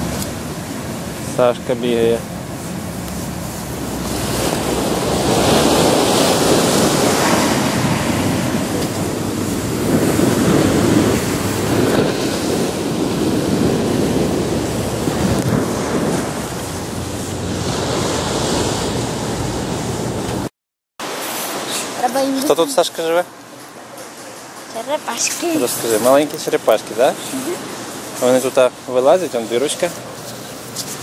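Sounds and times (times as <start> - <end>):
ocean surf on sandy beach: 0.0 - 31.0.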